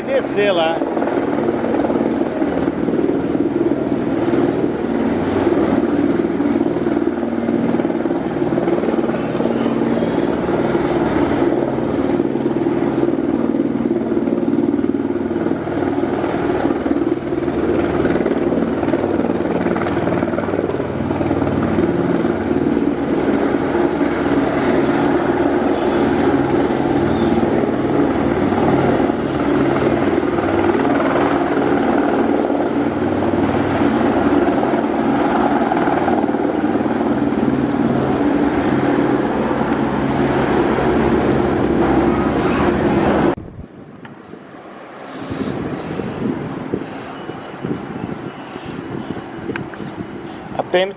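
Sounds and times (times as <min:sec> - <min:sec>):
helicopter rotor drone: 0:00.0 - 0:50.9.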